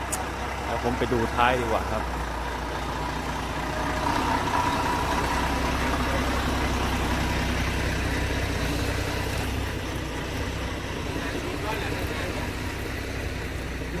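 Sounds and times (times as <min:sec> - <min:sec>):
diesel truck engine idling low: 0:00.0 - 0:14.0.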